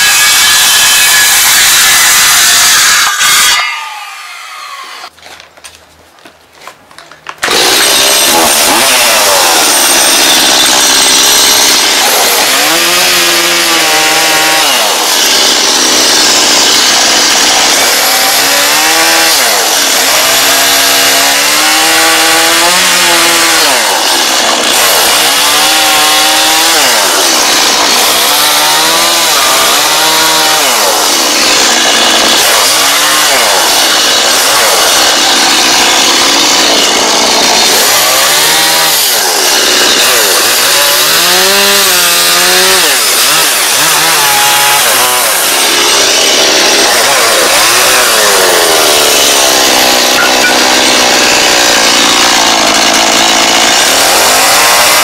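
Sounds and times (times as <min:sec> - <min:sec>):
chainsaw cutting wood: 0:00.0 - 0:05.5, 0:07.2 - 0:55.0.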